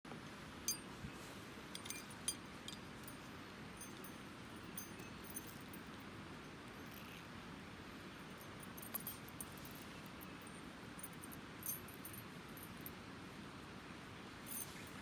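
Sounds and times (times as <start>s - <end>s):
low background hiss: 0.1s - 15.0s.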